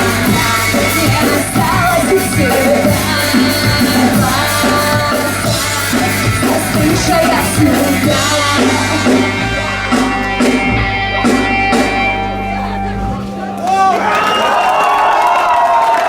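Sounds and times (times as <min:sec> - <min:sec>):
rock band playing loudly: 0:00.0 - 0:15.0.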